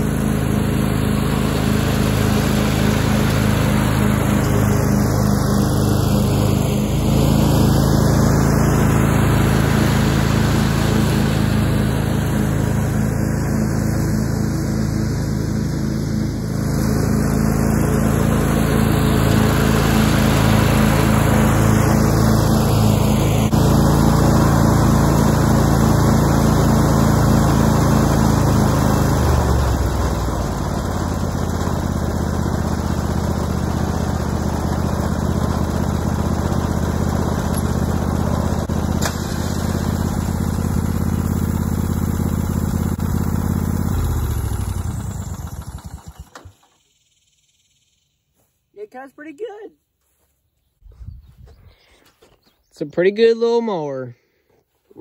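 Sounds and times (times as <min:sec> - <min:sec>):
riding lawn mower running: 0:00.0 - 0:49.6.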